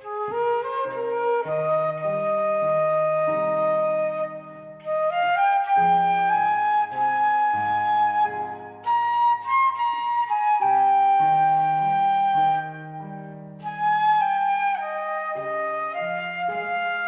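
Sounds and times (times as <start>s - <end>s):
flute melody: 0.0s - 17.0s.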